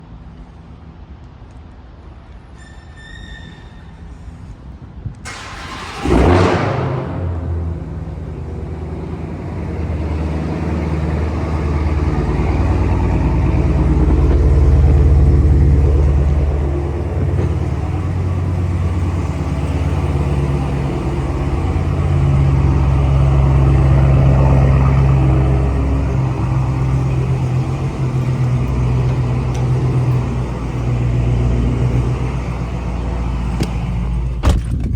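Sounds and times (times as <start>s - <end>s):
car engine idling: 5.2s - 34.4s.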